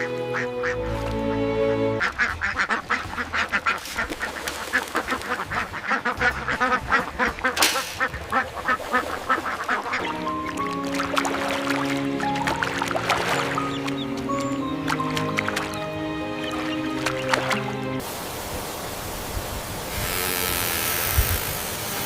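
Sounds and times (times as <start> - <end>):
ducks quacking: 0.0 - 18.0
music with sustained notes: 0.0 - 18.1.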